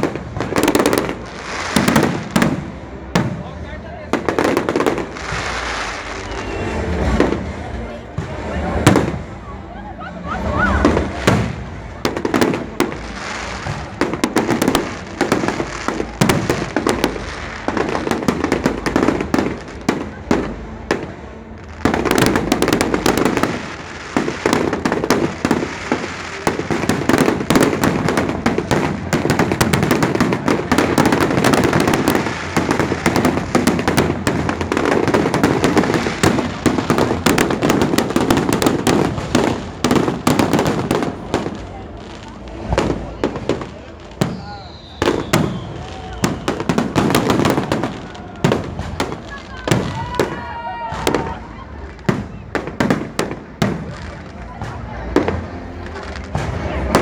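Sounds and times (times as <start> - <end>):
firecrackers cracking and popping: 0.0 - 9.5, 10.4 - 57.0.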